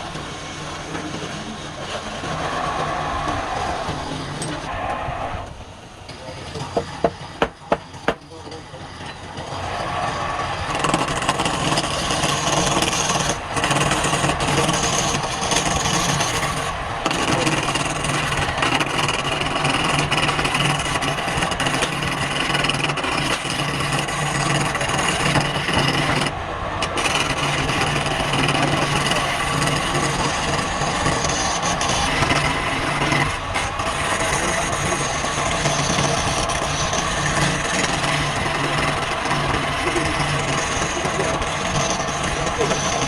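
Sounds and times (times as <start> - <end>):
lathe tool scraping wood: 0.0 - 5.4, 6.1 - 43.0
lathe motor hum: 0.0 - 43.0.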